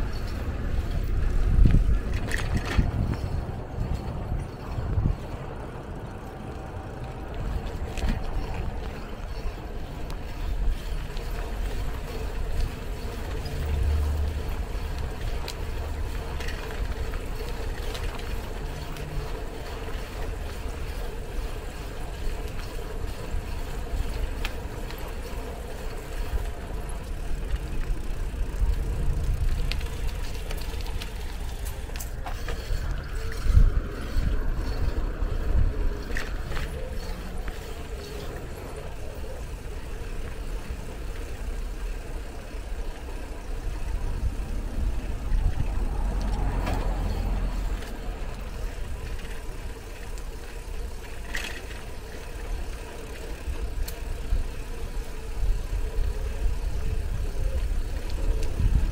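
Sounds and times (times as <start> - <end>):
wind buffeting microphone: 0.0 - 51.8, 53.2 - 58.9
bicycle clicks and rattles: 0.0 - 58.9.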